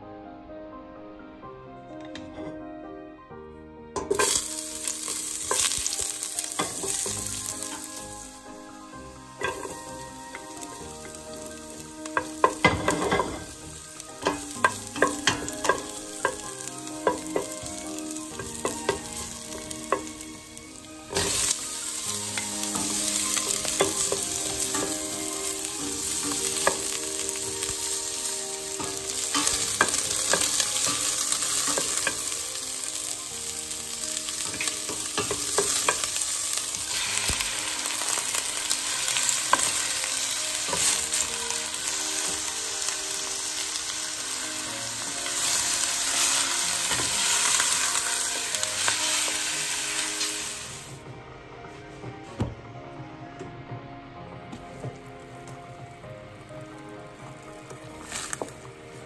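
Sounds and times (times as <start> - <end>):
ginger frying in oil: 4.0 - 51.0, 56.8 - 59.0.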